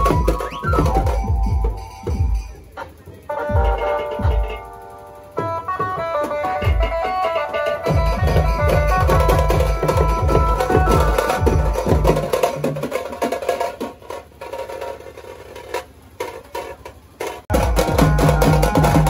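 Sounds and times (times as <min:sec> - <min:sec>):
street drum band playing: 0:00.0 - 0:19.0.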